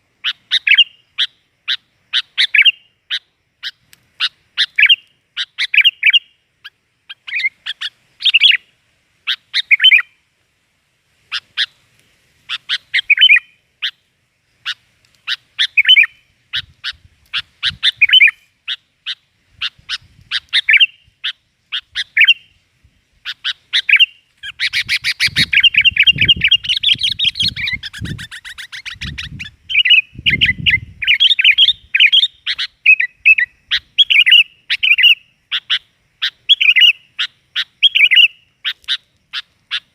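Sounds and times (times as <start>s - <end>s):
birds calling and chattering: 0.0s - 10.2s, 11.3s - 22.6s, 23.2s - 39.9s.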